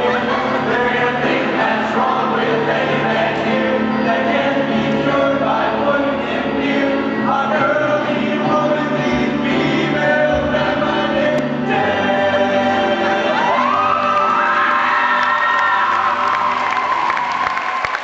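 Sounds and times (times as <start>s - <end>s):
male choir singing in harmony: 0.0s - 16.0s.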